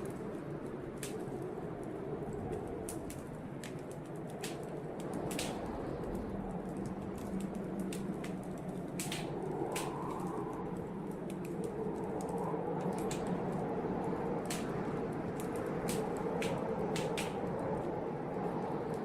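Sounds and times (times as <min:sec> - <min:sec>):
blizzard wind howling: 0:00.0 - 0:19.0
wood fire crackling: 0:00.0 - 0:19.0.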